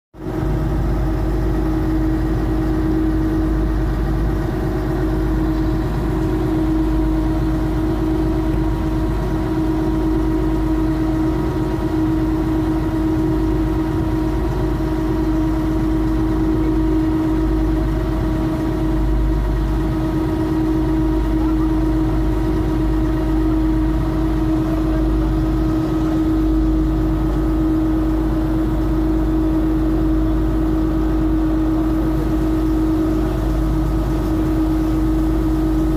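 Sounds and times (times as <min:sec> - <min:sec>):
boat engine droning: 0:00.2 - 0:35.9.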